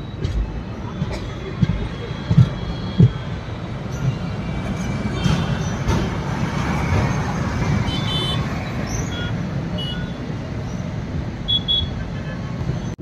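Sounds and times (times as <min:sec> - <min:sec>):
moving train rumble: 0:00.0 - 0:13.0
road traffic: 0:00.0 - 0:13.0.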